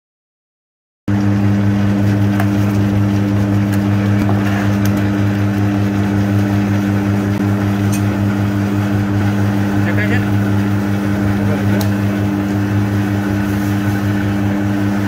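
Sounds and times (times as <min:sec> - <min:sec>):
electric motor humming: 0:01.1 - 0:15.0.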